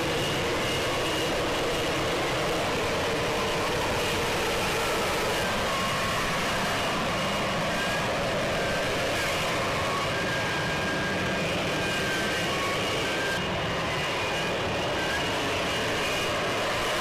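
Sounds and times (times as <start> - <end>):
aircraft engine running: 0.0 - 17.0.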